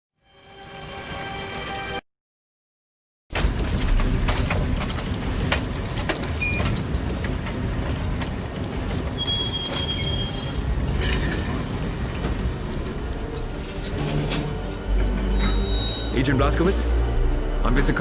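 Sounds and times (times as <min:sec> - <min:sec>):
train low rumble: 0:03.4 - 0:18.0.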